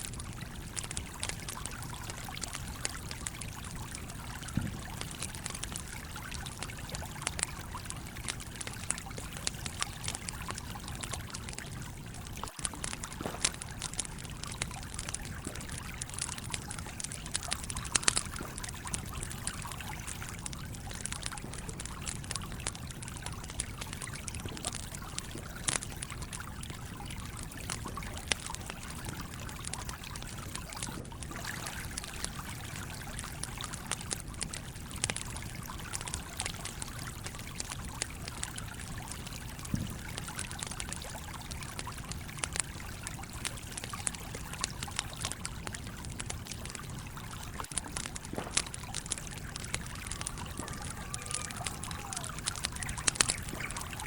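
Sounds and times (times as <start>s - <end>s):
stream water flowing: 0.0s - 34.1s, 34.7s - 54.0s
campfire crackling and popping: 0.0s - 54.0s.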